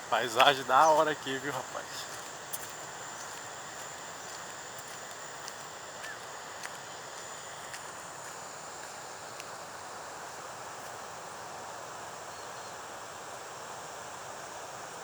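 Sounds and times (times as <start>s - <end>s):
high-pitched insect drone: 0.0s - 13.0s
rushing hiss: 0.0s - 15.0s.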